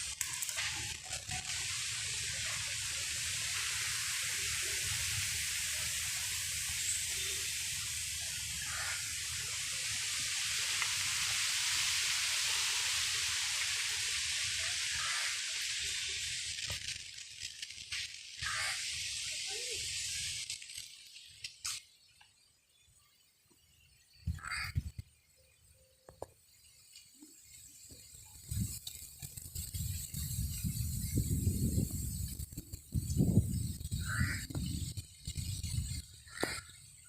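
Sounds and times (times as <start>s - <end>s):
outdoor hissing noise: 0.0s - 37.0s.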